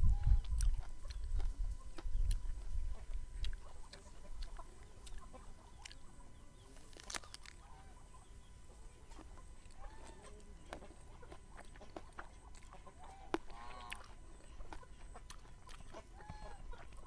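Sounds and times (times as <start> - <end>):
hens clucking: 0.0 - 17.0
crunching raw vegetables: 0.3 - 6.1, 6.8 - 7.7, 9.1 - 17.0.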